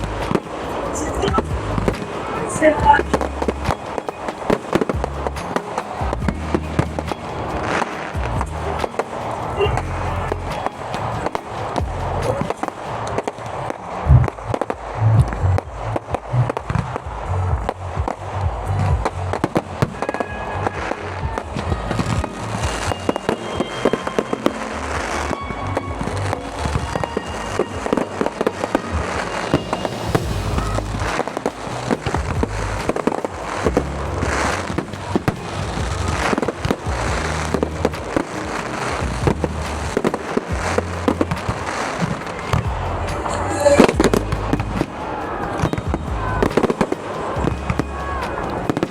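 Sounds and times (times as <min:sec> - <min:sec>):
fireworks bangs and crackles: 0:00.0 - 0:48.9
music with pulsing bass beat: 0:00.0 - 0:48.9.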